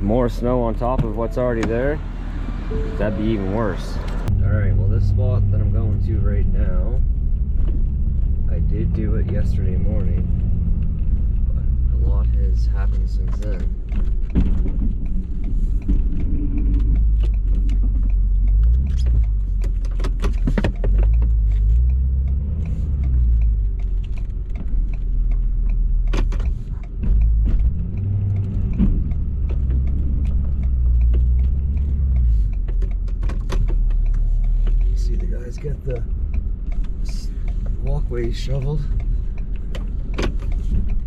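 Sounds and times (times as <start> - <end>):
sharp clicks and rattles: 4.1 - 41.0.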